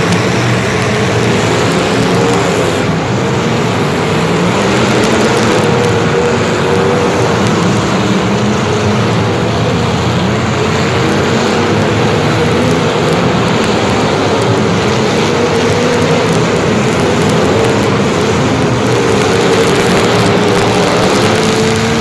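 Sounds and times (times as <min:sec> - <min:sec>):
engine running steadily: 0:00.0 - 0:22.0
loud rushing noise: 0:00.0 - 0:22.0.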